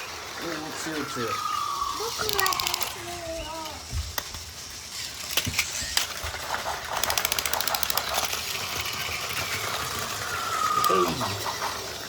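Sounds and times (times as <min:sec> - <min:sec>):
plastic toy train pieces clicking: 0:02.0 - 0:12.0.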